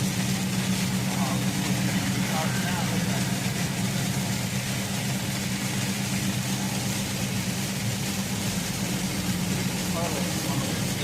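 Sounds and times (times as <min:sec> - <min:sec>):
background rush: 0:00.0 - 0:11.0
truck engine running: 0:00.0 - 0:11.0.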